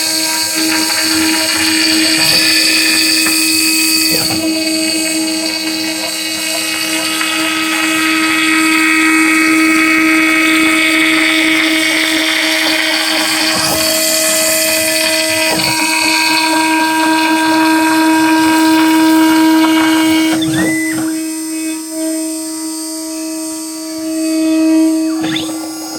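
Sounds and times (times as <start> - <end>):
fainter machine tones: 0.0 - 25.9
router spindle whining: 0.0 - 25.9.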